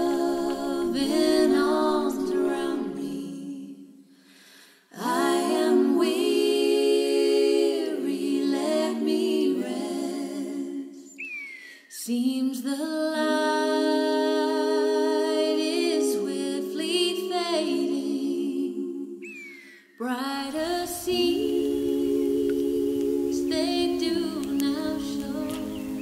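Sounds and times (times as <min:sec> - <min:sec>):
a cappella vocal harmony: 0:00.0 - 0:26.0.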